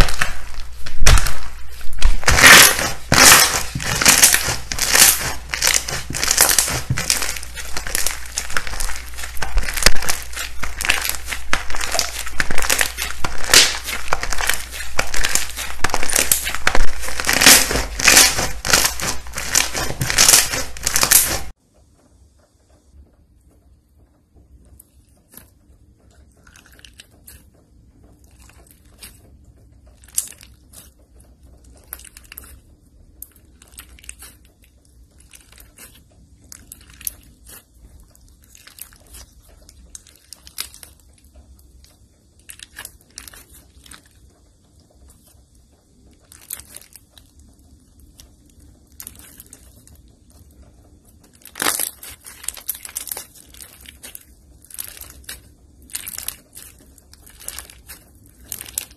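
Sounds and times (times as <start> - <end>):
slime squishing with sticky crackles: 0.0 - 21.6, 24.7 - 58.9.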